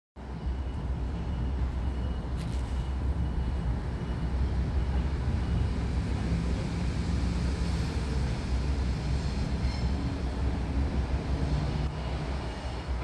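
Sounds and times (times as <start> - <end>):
approaching train rumble: 0.2 - 13.0.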